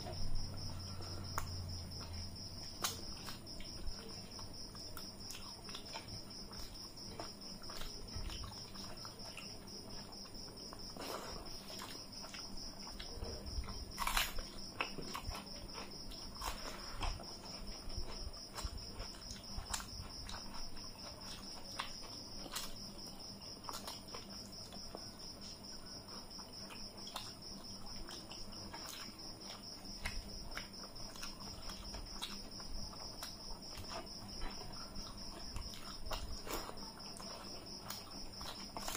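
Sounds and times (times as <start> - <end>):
crickets chirring: 0.0 - 38.9
chewing and lip smacks: 1.3 - 38.9.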